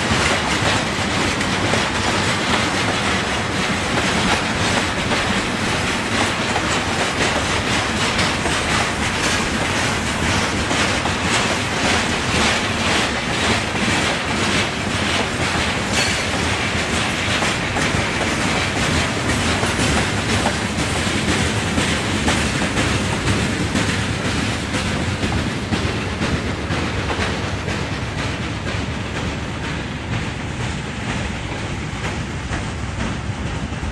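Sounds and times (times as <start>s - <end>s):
train wheels clacking on rails: 0.0s - 33.9s.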